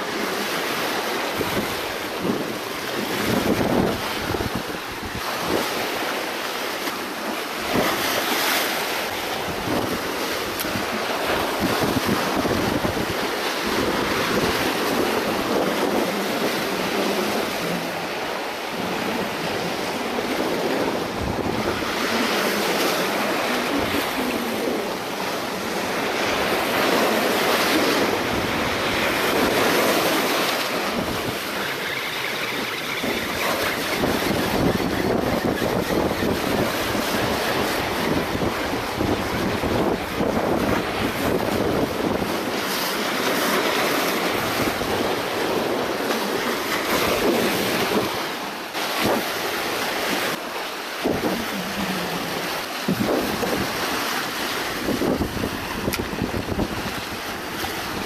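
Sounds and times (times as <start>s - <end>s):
waves breaking on rocks: 0.0s - 58.0s
wind buffeting microphone: 0.1s - 58.0s.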